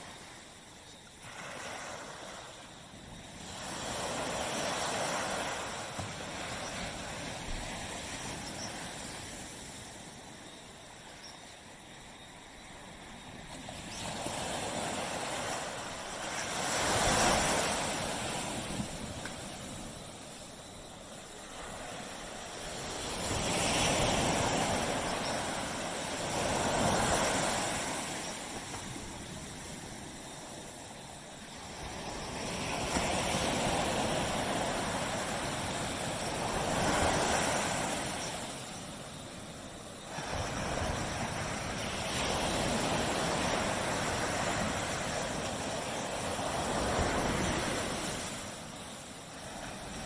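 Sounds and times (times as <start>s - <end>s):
waves breaking on a beach: 0.0s - 50.0s.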